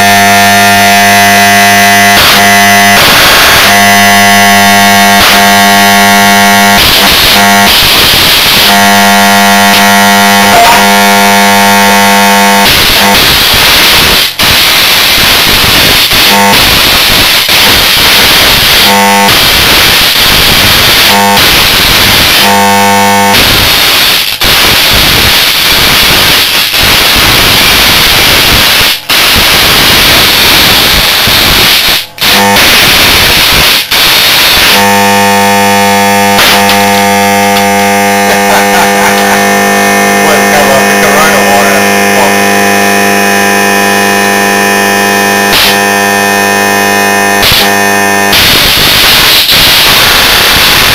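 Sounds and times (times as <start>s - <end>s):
mains buzz: 0.0s - 50.9s
electric arc crackling hiss: 4.7s - 46.0s, 47.4s - 50.9s.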